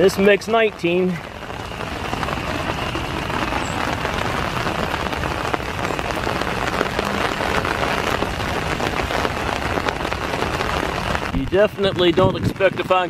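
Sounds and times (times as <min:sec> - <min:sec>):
raindrops ticking sharply: 0:00.0 - 0:13.0
steady rain falling: 0:00.0 - 0:13.0.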